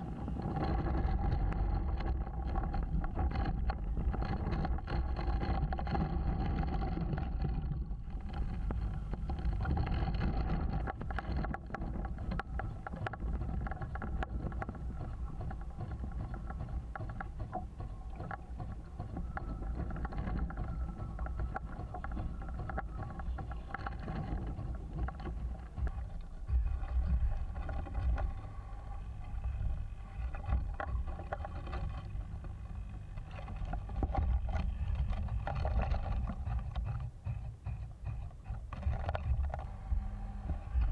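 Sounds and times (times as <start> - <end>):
water splashing along hull: 0.0 - 40.9.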